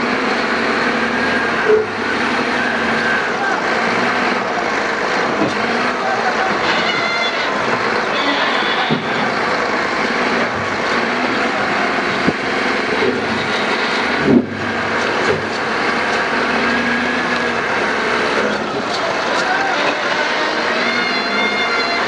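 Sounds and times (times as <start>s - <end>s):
diesel machinery running: 0.0s - 22.0s.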